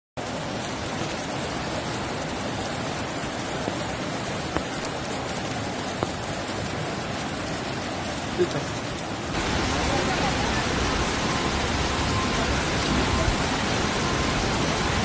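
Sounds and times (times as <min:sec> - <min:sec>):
heavy rain hissing: 0:00.2 - 0:15.0
wind: 0:00.2 - 0:15.0.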